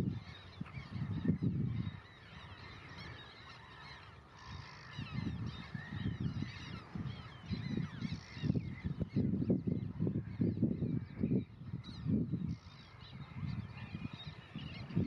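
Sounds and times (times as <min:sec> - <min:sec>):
gulls squealing calls: 0:00.0 - 0:15.0.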